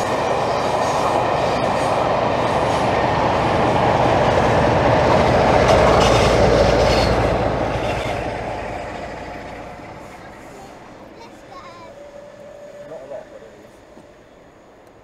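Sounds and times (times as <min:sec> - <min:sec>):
train wheels clattering on rails: 0:00.0 - 0:14.2
diesel locomotive engine rumble: 0:00.0 - 0:15.0.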